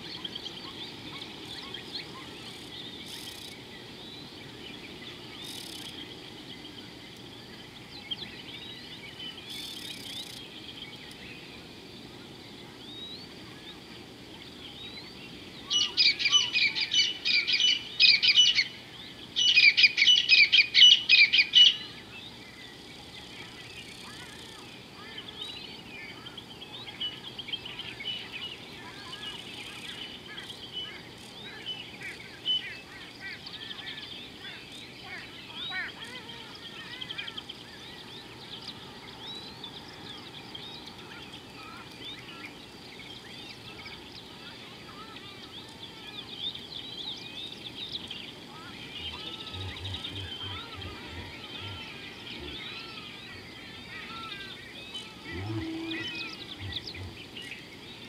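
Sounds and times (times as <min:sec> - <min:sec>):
bird chorus: 0:00.0 - 0:58.0
faint bird chirps and whistles: 0:00.0 - 0:58.0.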